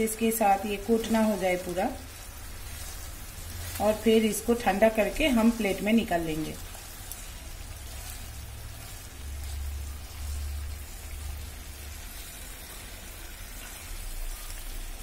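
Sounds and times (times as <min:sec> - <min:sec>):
syrup bubbling and sizzling: 0:00.0 - 0:15.0.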